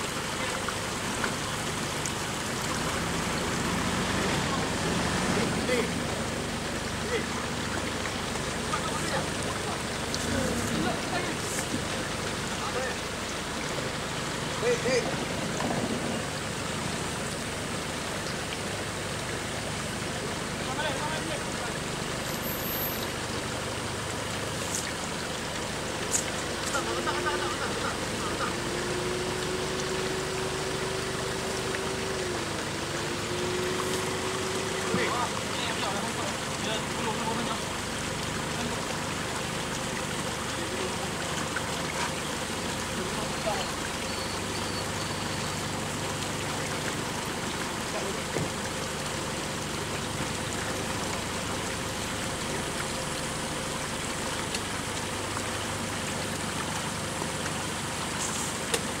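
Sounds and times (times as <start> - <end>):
engine running: 0.0 - 59.0
stream water rushing: 0.0 - 59.0.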